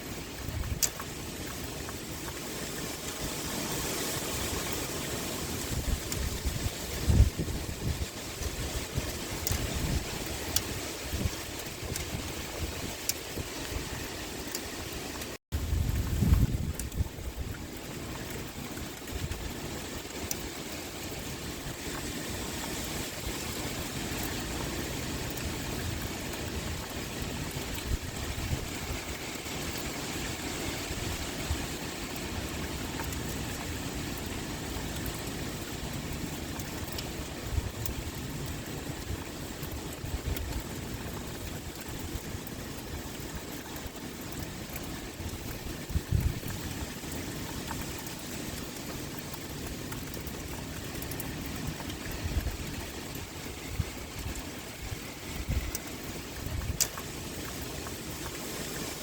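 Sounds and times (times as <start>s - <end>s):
pouring rain: 0.0s - 59.0s
raindrop ticks: 0.0s - 59.0s.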